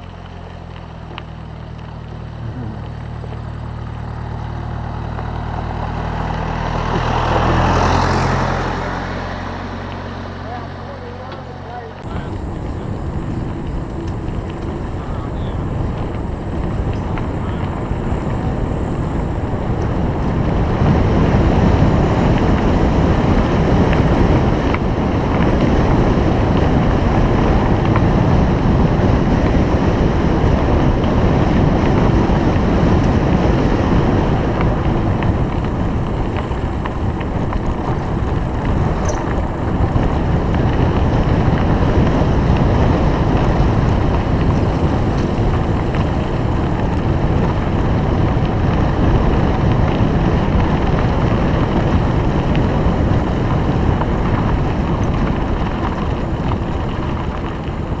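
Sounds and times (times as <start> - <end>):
wind buffeting microphone: 2.3 - 58.0.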